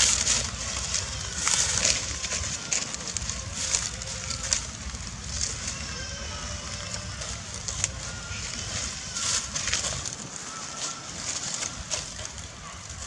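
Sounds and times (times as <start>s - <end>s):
dry leaves crackling and rustling: 0.0s - 13.0s
low steady rumble: 0.0s - 13.0s.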